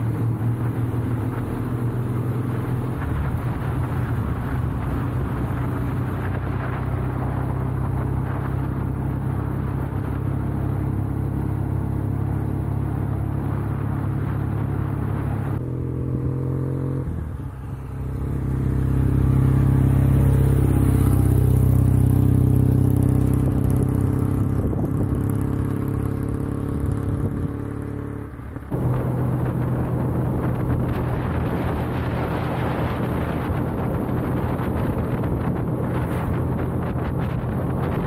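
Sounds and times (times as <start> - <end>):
motorcycle passing by: 0.0 - 38.0
steady engine hum: 0.0 - 38.0
wind rushing over microphone: 0.0 - 38.0.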